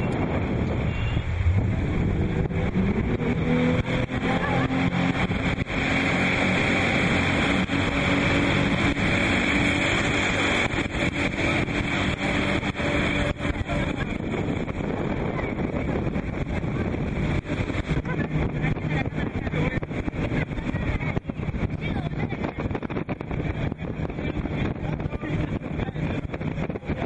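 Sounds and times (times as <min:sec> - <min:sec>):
rushing water: 0:00.0 - 0:27.0
speedboat motor running hard: 0:00.0 - 0:27.0
wind buffeting microphone: 0:00.0 - 0:27.0.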